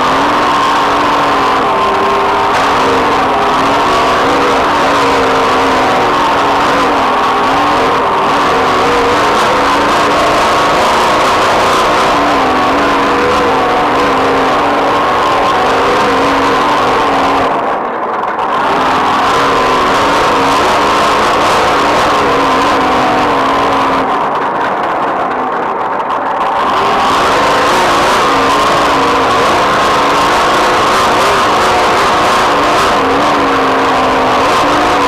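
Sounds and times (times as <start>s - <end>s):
engine running hard: 0.0s - 35.0s.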